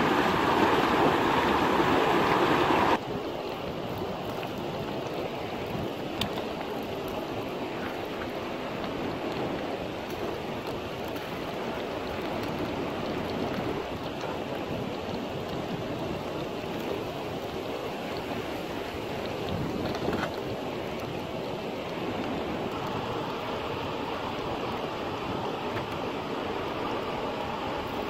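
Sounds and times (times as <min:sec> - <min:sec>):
river flowing over rocks: 0:00.0 - 0:28.0.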